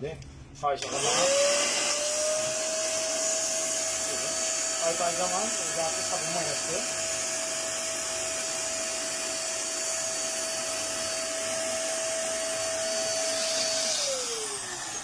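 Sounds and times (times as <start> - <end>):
vacuum cleaner whining: 0.8 - 15.0.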